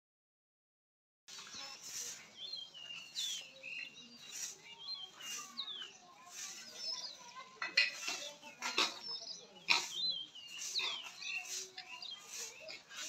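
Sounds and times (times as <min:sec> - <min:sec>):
small birds chirping: 0:01.3 - 0:13.0.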